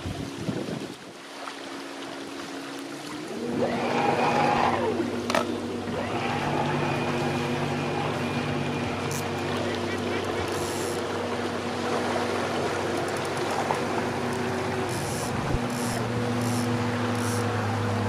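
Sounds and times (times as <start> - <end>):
boat engine running: 0.0 - 18.0
rising and falling whine: 3.2 - 18.0.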